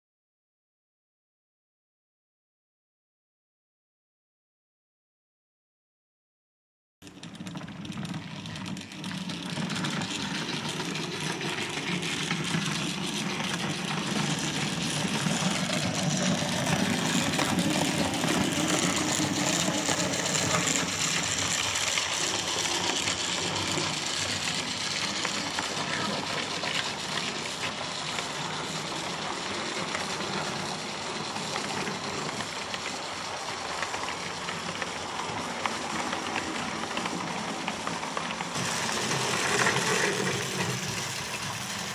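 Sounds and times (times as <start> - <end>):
model train running on track: 7.0 - 41.9.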